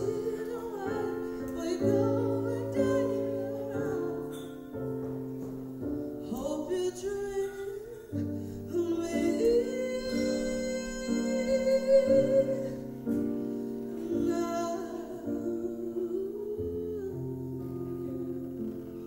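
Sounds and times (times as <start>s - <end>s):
woman singing into a microphone: 0.0s - 4.8s, 6.2s - 13.3s, 13.9s - 19.0s.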